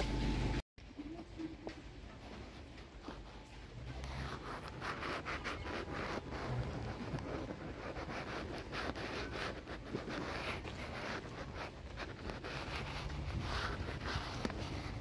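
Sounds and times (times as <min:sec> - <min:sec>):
light rain pattering: 0:00.8 - 0:15.0.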